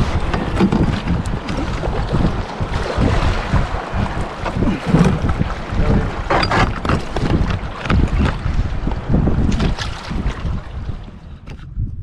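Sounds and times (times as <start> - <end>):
paddle strokes in water: 0.0 - 11.7
wind buffeting microphone: 0.0 - 12.0.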